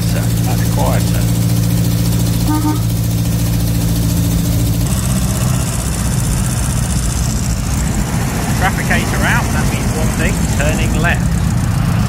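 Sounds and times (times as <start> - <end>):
car engine running from inside cabin: 0.0 - 12.0
road noise: 0.0 - 12.0.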